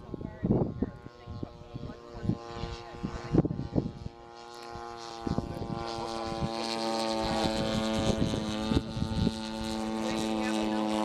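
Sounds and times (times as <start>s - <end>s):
model airplane engine running: 0.0s - 11.0s.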